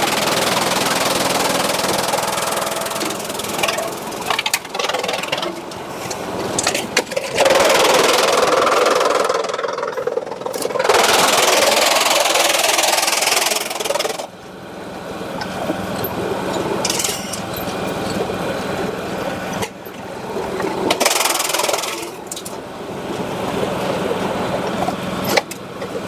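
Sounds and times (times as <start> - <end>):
harsh machine noise: 0.0 - 26.0
sawmill machinery running: 0.0 - 26.0.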